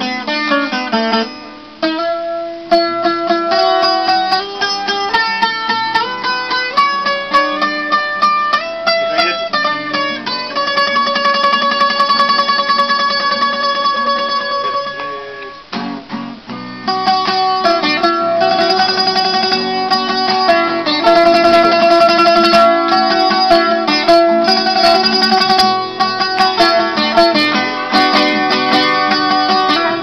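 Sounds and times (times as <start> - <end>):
acoustic guitars playing: 0.0 - 30.0.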